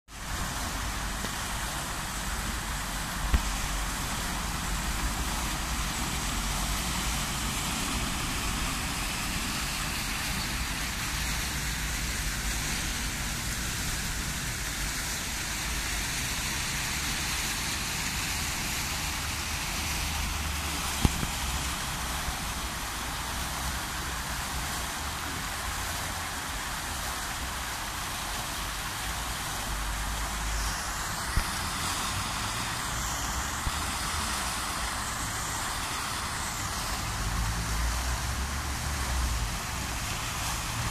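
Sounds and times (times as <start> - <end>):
fountain water splashing: 0.1 - 40.9.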